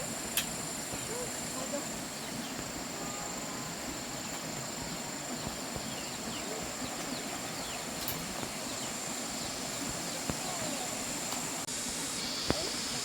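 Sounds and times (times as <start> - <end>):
constant hiss: 0.0 - 13.0.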